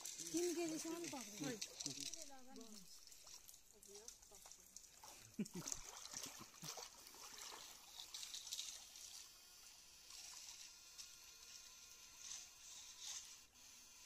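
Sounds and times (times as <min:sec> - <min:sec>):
water trickling in a stream: 0:00.0 - 0:11.3.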